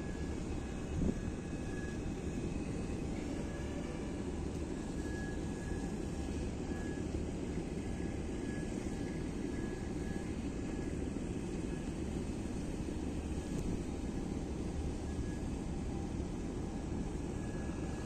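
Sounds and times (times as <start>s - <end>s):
boat engine rumble: 0.0s - 18.0s
faint high whine: 0.0s - 18.0s.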